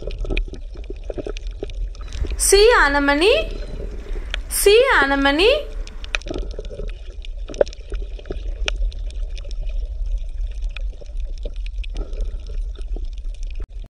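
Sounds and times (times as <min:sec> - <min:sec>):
underwater low rumble: 0:00.0 - 0:02.4, 0:03.5 - 0:04.6, 0:05.7 - 0:13.6.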